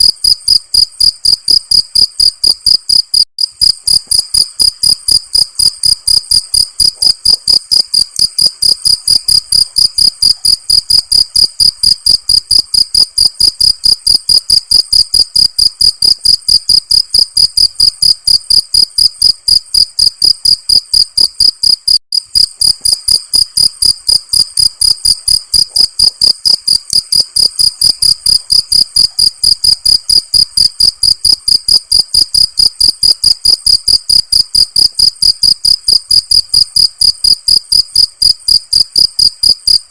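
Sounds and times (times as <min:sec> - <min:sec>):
cricket chirping: 0:00.0 - 0:39.8.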